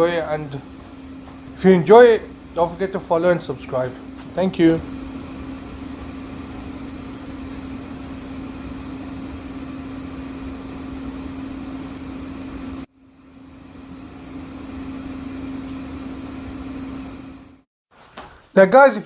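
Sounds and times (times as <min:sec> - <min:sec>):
mechanical hum with low drone: 0:00.0 - 0:17.7.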